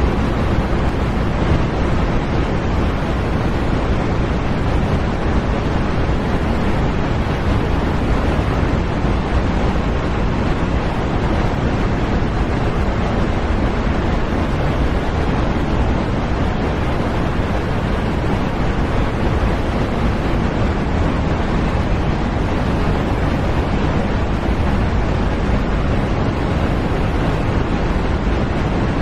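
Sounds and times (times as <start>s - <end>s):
loud steady rushing noise: 0.0s - 29.0s.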